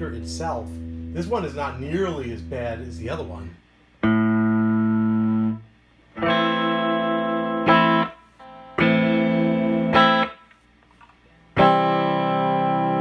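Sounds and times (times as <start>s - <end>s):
distorted electric guitar notes: 0.0s - 3.4s, 4.0s - 5.6s, 6.2s - 10.4s, 11.6s - 13.0s.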